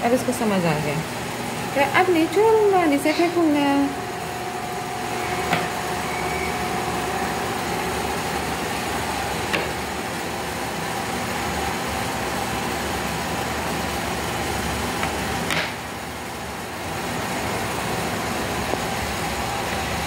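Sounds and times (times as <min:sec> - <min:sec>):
machine hum with whine: 0:00.0 - 0:20.0.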